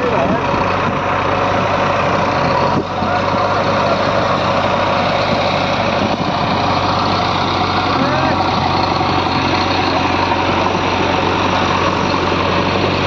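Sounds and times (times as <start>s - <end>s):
heavy machinery diesel engine humming: 0.0s - 13.0s.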